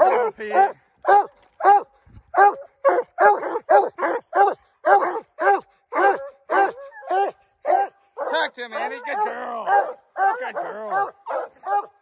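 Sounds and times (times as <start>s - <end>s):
hounds barking: 0.0s - 12.0s.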